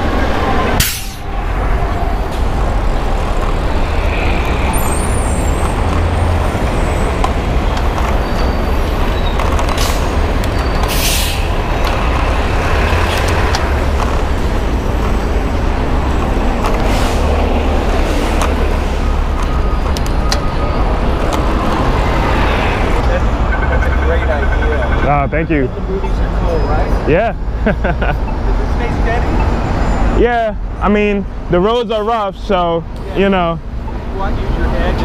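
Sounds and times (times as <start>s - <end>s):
city traffic noise: 0.0s - 35.0s.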